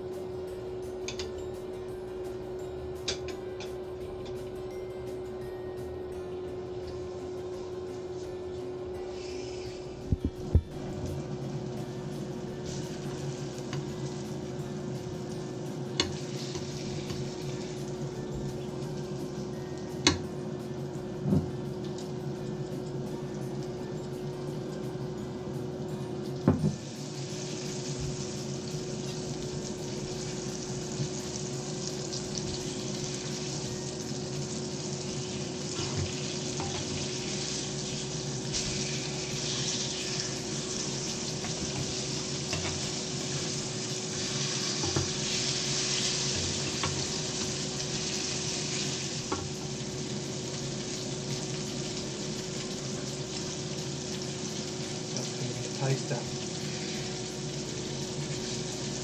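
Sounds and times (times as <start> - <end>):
steady low hum: 0.0 - 59.0
fish frying in hot oil: 9.1 - 59.0.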